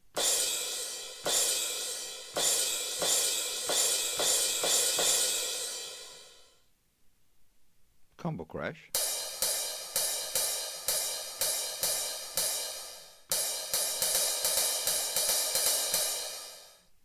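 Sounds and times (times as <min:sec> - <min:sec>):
drum machine crash cymbal hits: 0:00.0 - 0:06.6, 0:08.9 - 0:16.9.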